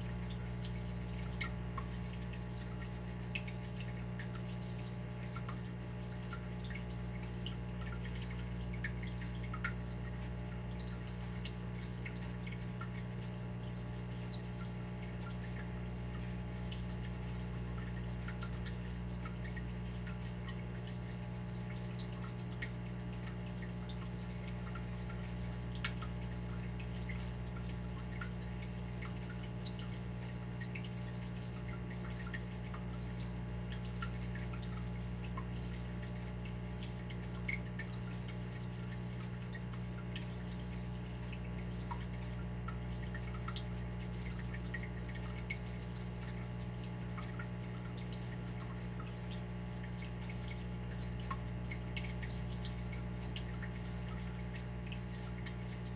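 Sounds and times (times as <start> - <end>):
water dripping: 0.0 - 55.9.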